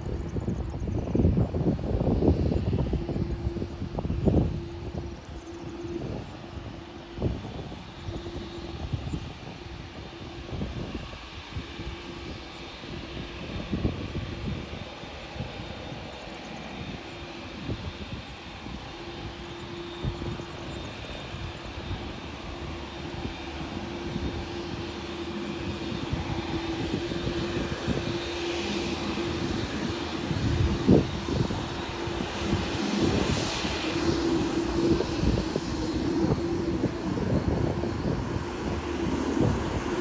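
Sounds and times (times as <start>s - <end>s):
jet airliner engines droning: 0.0s - 40.0s.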